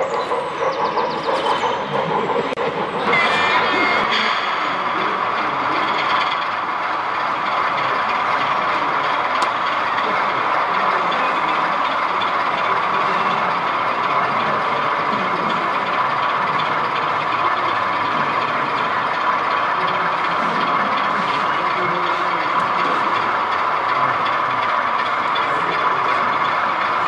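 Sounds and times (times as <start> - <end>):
model train running: 0.0 - 27.0.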